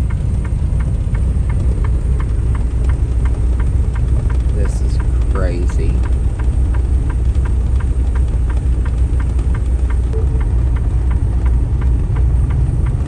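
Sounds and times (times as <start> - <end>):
light regular clicking: 0.0 - 13.0
truck engine rumble: 0.0 - 13.0.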